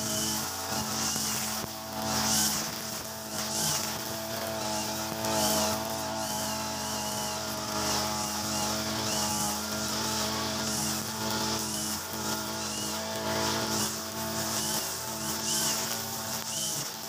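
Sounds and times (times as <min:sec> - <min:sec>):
brush cutter engine running: 0:00.0 - 0:17.0
trimmer line swishing through grass: 0:00.0 - 0:17.0.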